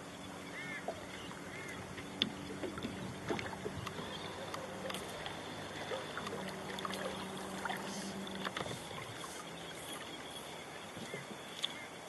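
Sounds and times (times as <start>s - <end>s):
faint steady hum: 0.0s - 12.0s
water lapping against a boat hull: 0.1s - 12.0s.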